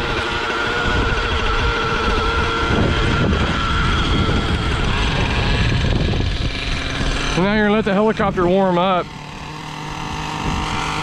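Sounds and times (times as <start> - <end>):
model helicopter engine idling: 0.0 - 11.0.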